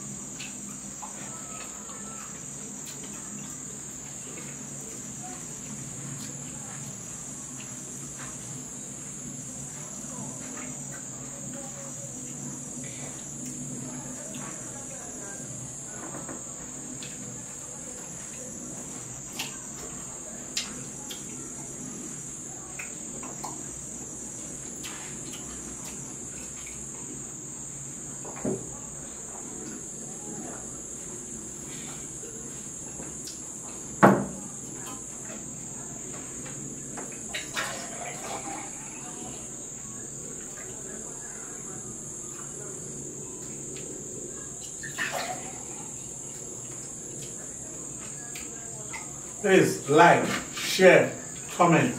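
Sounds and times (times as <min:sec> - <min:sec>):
insect chorus chirring: 0:00.0 - 0:51.9.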